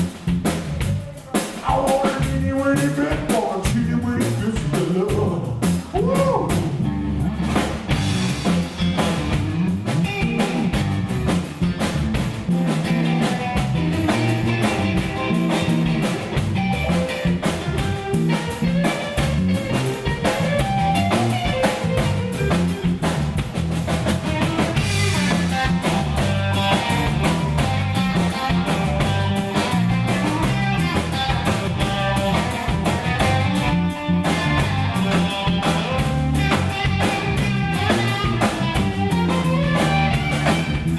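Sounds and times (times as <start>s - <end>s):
blues band playing: 0.0s - 40.9s
drum kit: 0.0s - 40.9s
lead guitar: 0.0s - 40.9s.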